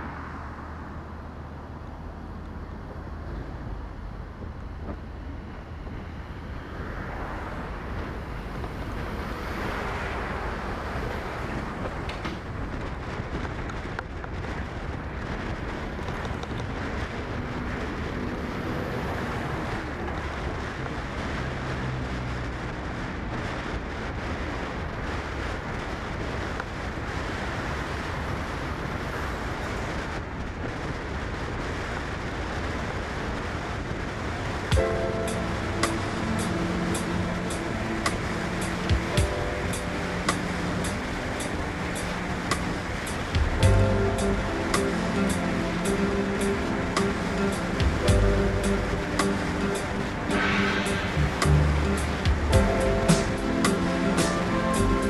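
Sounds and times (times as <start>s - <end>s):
car road noise: 0.0s - 55.0s
wind buffeting microphone: 0.0s - 55.0s.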